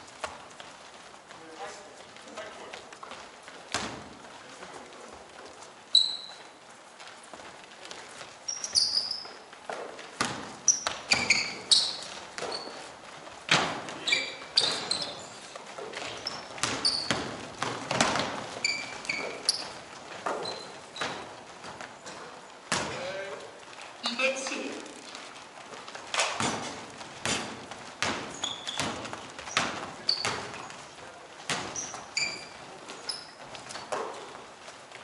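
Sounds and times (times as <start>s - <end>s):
basketballs bouncing on court: 0.0s - 6.5s, 7.3s - 34.7s
sneakers squeaking: 0.0s - 35.0s.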